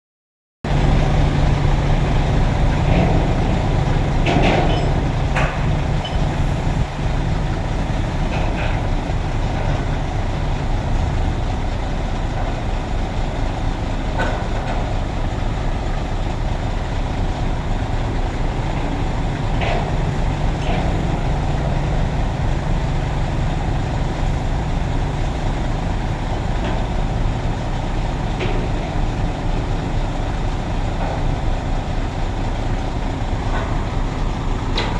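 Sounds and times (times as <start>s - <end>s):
truck engine droning: 0.7s - 34.9s.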